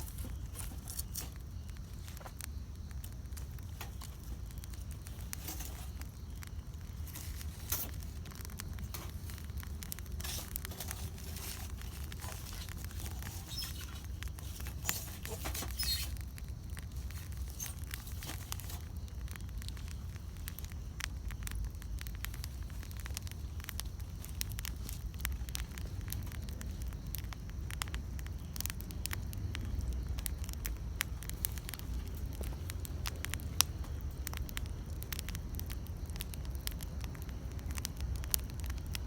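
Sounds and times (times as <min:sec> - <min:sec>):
campfire crackling and popping: 0:00.0 - 0:39.0
low rumble of flames: 0:00.0 - 0:39.0.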